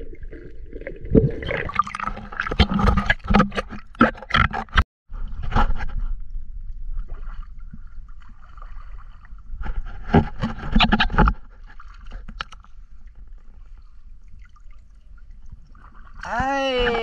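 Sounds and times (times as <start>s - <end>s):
water rumbling against camera: 0.0s - 17.0s.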